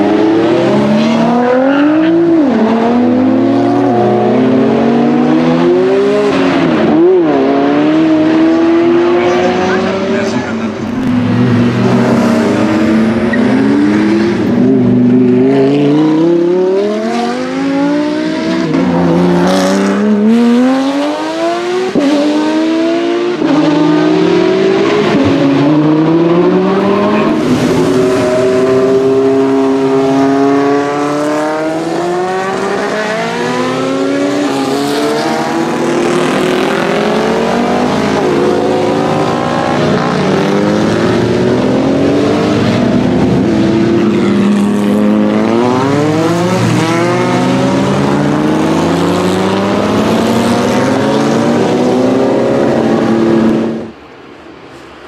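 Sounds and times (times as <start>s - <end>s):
sports car engines accelerating: 0.0s - 54.0s.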